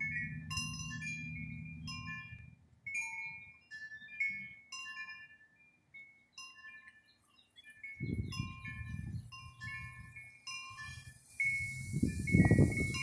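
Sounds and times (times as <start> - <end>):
tubular wind chime ringing: 0.0 - 13.0.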